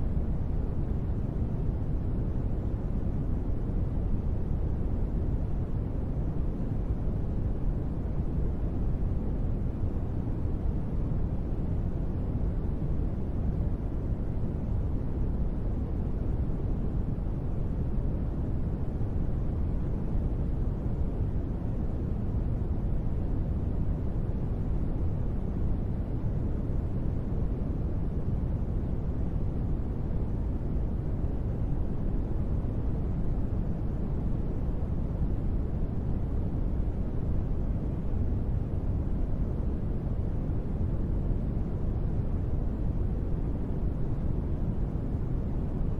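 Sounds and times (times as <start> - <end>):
steady white noise: 0.0 - 45.9.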